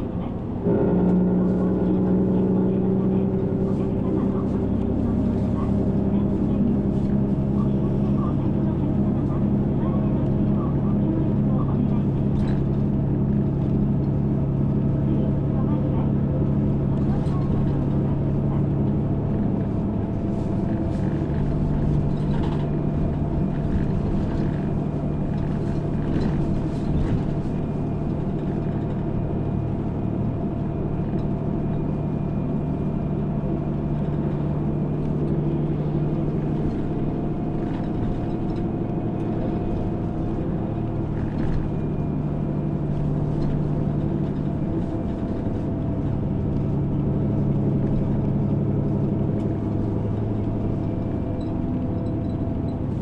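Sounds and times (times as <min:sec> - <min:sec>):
bus engine hum: 0:00.0 - 0:53.0
road noise: 0:00.0 - 0:53.0.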